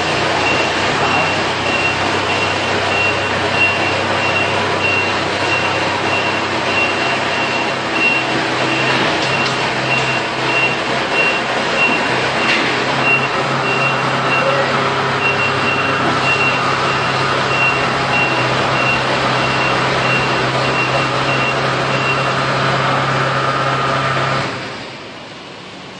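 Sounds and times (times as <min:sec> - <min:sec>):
diesel engine running: 0:00.0 - 0:25.9
warning beeper: 0:00.4 - 0:22.4.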